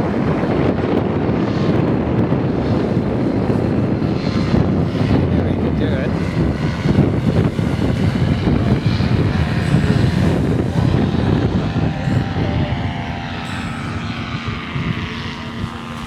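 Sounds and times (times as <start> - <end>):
paramotor engine running: 0.0 - 16.0
wind rumbling on microphone: 0.0 - 16.0.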